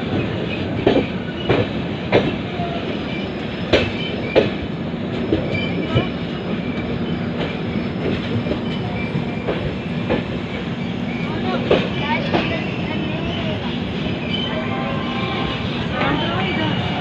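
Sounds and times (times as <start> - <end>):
train rumble: 0.0 - 17.0
wheels clacking over rail joints: 0.1 - 14.5.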